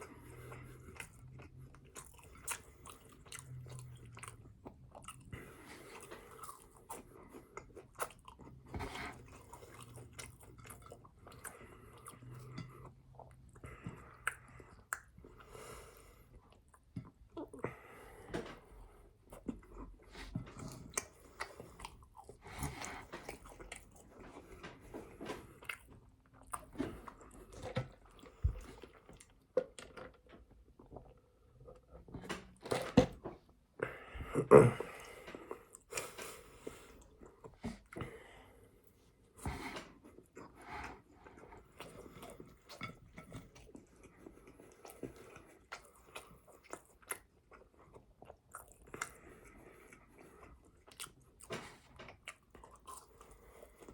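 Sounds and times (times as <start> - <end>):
person chewing and crunching food: 0.0 - 53.9.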